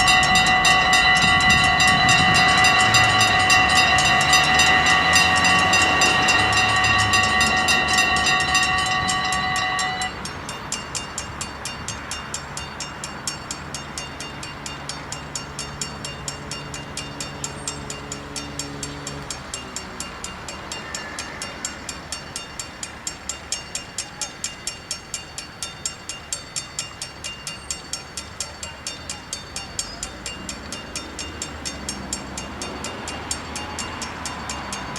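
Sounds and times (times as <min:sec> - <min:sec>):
crossing warning bells ringing: 0:00.0 - 0:34.9
high whine of train: 0:00.0 - 0:34.9
train rumbling: 0:00.0 - 0:34.9.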